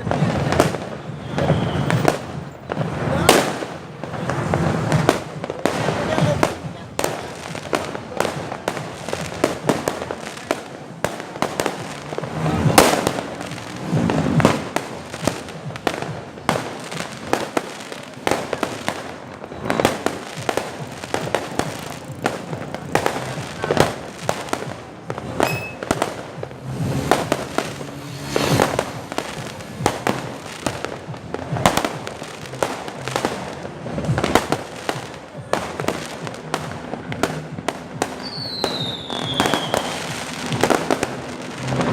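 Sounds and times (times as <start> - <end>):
fireworks bangs and crackling: 0.0 - 41.9
loud fireworks booms: 0.0 - 41.9.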